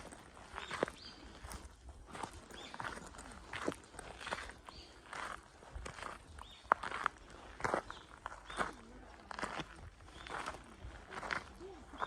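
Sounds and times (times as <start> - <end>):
footsteps crunching on forest path: 0.0 - 12.0.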